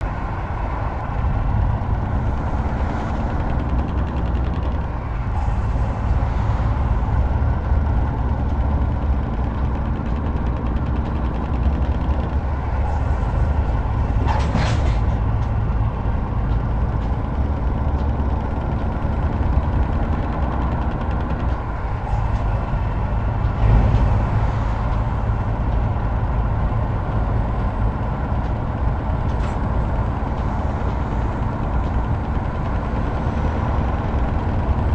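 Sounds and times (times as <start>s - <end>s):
truck diesel engine rumbling: 0.0s - 34.9s.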